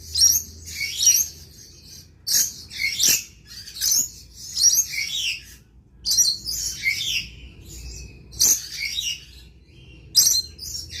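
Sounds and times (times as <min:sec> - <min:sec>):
lorikeet chattering chirps: 0:00.0 - 0:11.0.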